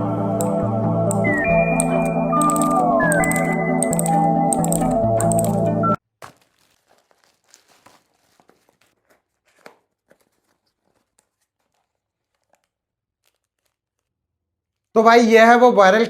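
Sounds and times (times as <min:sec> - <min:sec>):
handling clicks and crinkles: 0:01.1 - 0:15.0.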